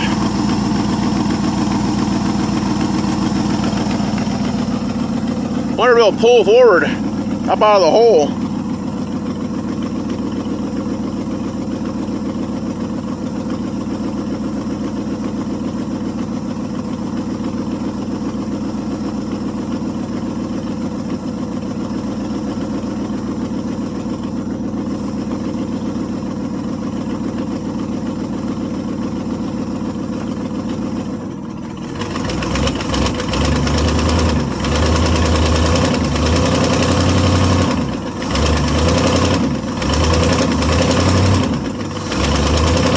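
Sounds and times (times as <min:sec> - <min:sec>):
pickup truck engine idling: 0:00.0 - 0:42.9.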